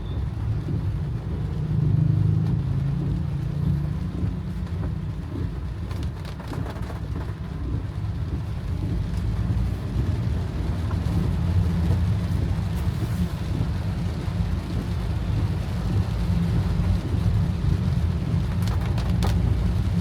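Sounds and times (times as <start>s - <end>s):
car driving rumble: 0.0s - 20.0s
heavy rain on car: 0.0s - 20.0s.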